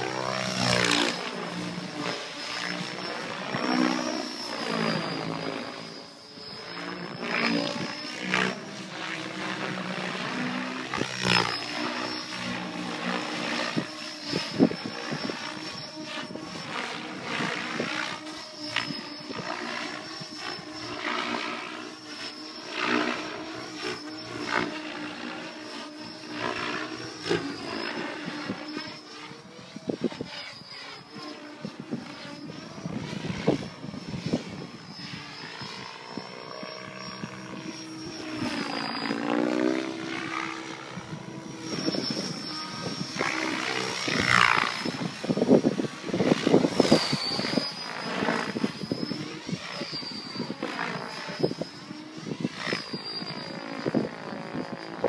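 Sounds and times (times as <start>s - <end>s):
helicopter rotor blades humming: 0.0s - 55.0s
high motor whine: 0.0s - 55.0s.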